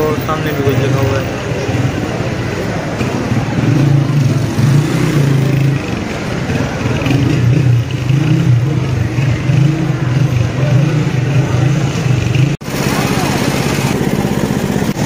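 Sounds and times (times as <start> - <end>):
motorcycle engines passing: 0.0 - 15.0.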